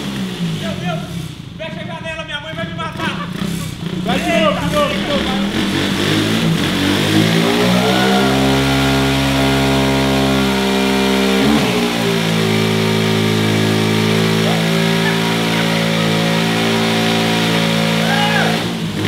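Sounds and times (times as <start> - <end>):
motorcycle engine revving high: 0.0 - 19.0.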